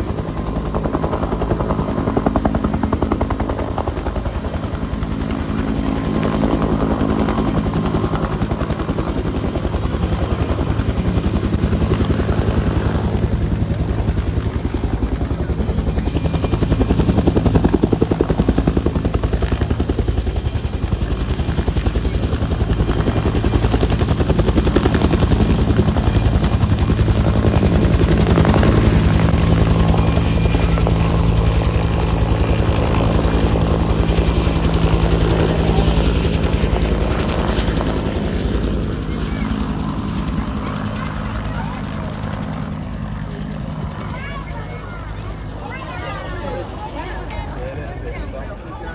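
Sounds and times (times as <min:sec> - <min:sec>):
helicopter rotor beating: 0:00.0 - 0:48.9.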